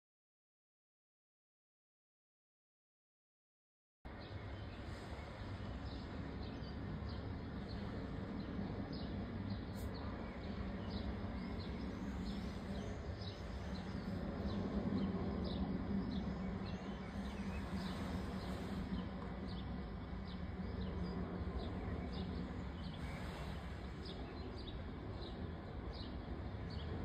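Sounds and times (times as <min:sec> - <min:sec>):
low background rumble: 0:04.1 - 0:27.0.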